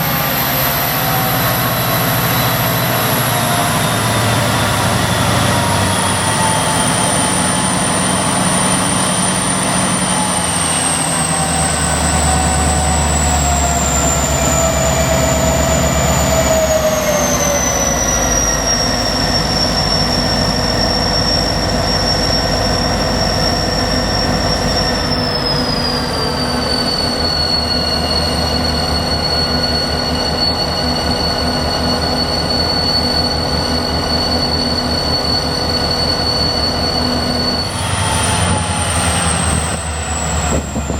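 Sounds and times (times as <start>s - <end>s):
diesel locomotive engine running: 0.0s - 40.9s
high turbocharger whine: 0.0s - 40.9s.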